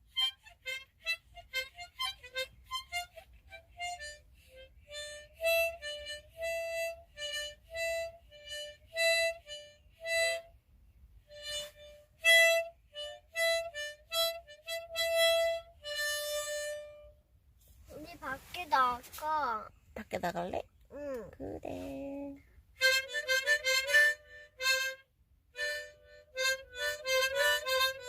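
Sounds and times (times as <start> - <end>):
harmonica melody: 0.0 - 19.0, 21.7 - 28.0.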